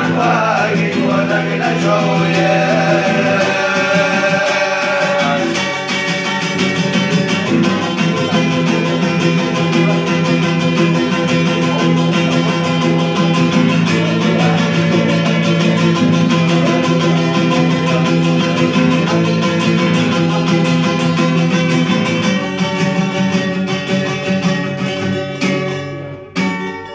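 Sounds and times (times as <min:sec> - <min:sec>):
acoustic guitar strummed fast: 0:00.0 - 0:26.9
folk lute strummed: 0:00.0 - 0:26.9.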